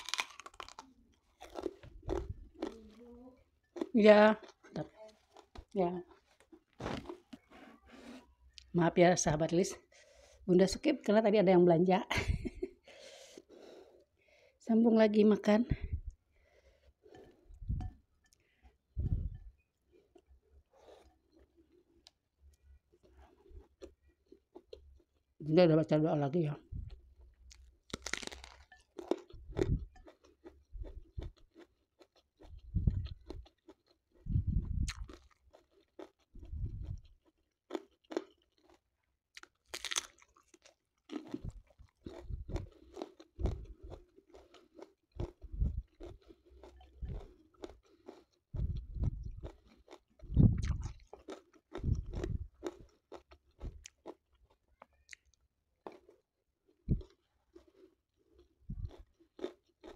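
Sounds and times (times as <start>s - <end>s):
person chewing and crunching: 0.0s - 8.7s, 16.8s - 25.4s, 26.7s - 59.9s.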